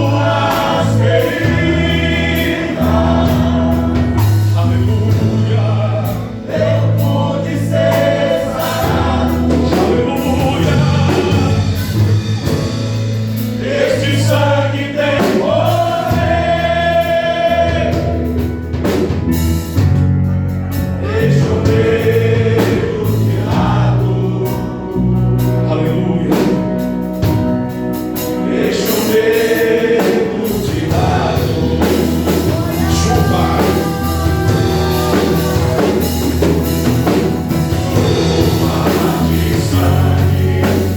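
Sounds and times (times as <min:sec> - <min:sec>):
instrumental backing with bass line: 0:00.0 - 0:40.9
men's choir singing a hymn: 0:00.0 - 0:40.9.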